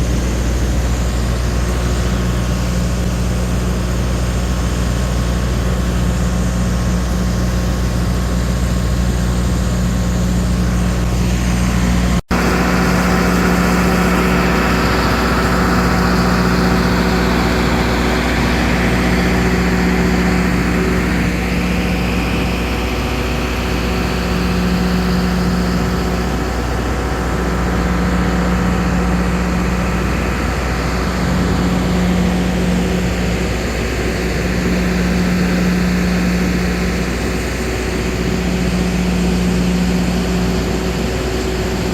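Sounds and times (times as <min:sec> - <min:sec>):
diamond rock cutter whining: 0:00.0 - 0:41.9.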